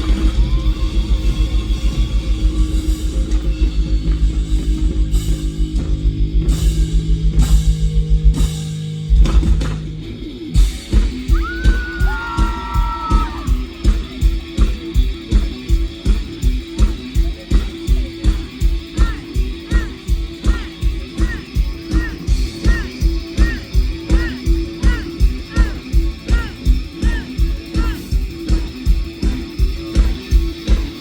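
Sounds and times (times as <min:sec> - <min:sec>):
live rock band playing: 0:00.0 - 0:31.0
steady drum beat: 0:00.0 - 0:31.0.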